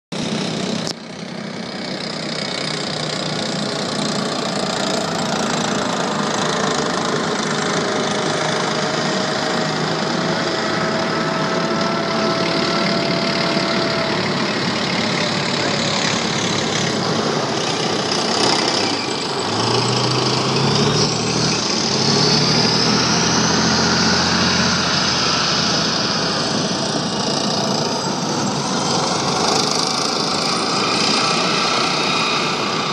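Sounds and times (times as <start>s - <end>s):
tanks rumbling past: 0.2s - 32.9s
thin high whine: 1.9s - 32.9s
deeper engine note: 2.9s - 32.9s.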